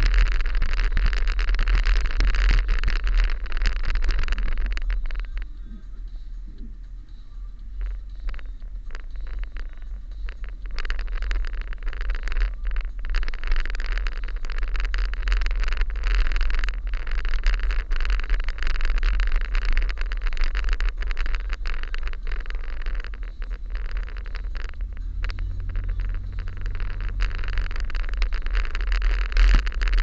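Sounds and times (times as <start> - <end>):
car engine and road rumble: 0.0 - 30.0
tyre noise hiss: 0.0 - 30.0.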